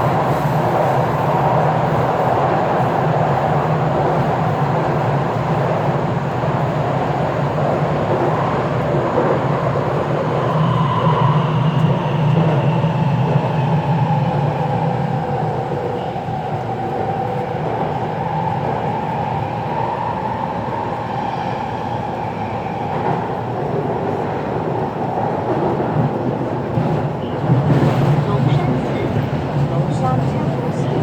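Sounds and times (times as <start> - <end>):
wheels rumbling on rail: 0.0 - 31.0.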